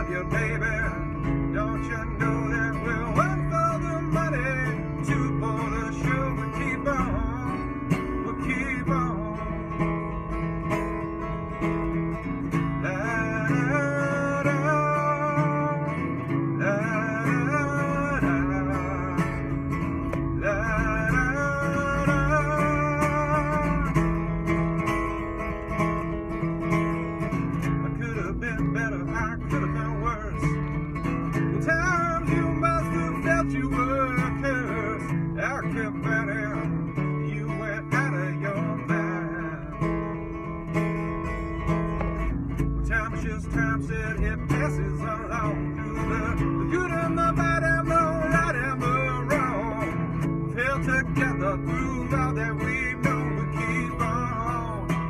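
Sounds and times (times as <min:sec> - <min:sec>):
acoustic blues guitar: 0:00.0 - 0:55.0.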